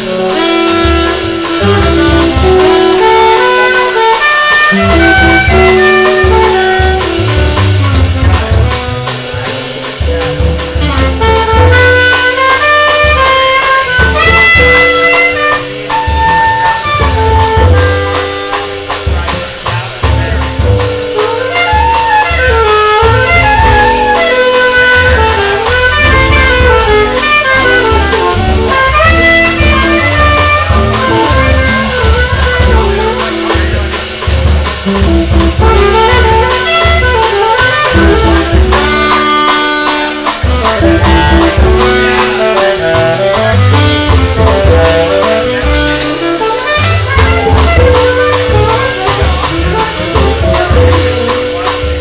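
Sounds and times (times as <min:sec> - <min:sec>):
alto saxophone melody: 0:00.0 - 0:52.0
drum kit: 0:00.0 - 0:52.0
plucked double bass: 0:00.0 - 0:52.0.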